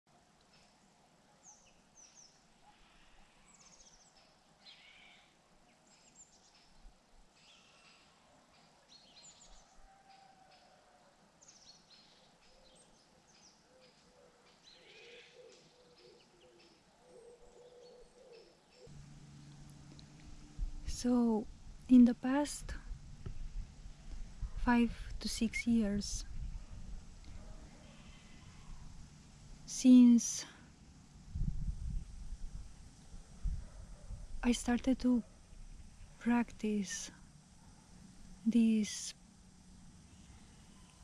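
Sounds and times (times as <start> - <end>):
low background hiss: 0.1 - 41.0.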